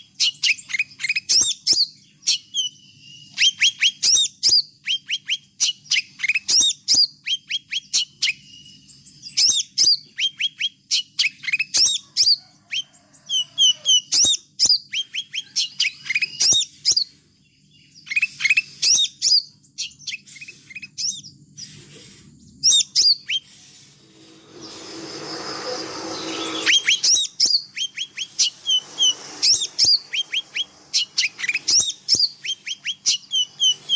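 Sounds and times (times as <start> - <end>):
small songbirds chirping: 0.0 - 33.9.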